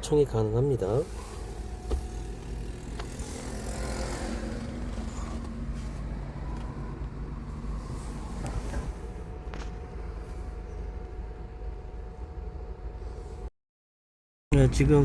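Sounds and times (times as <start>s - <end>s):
car road noise rumble: 0.0s - 13.5s
faint engine hum: 0.0s - 13.5s.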